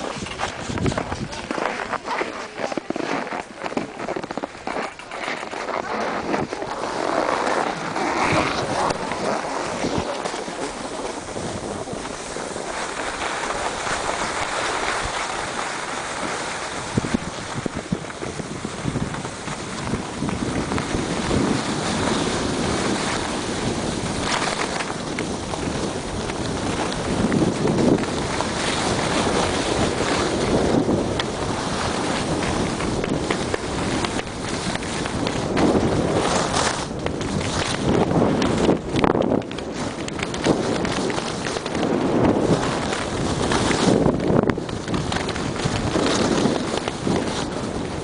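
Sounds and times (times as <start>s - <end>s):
skis scraping on snow: 0.0s - 48.0s
wind rushing over microphone: 0.0s - 48.0s.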